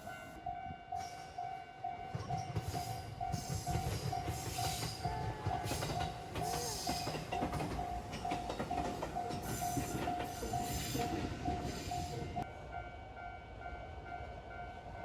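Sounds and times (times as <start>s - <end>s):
level-crossing warning bell: 0.0s - 15.0s
passing train rumble and clatter: 0.0s - 15.0s.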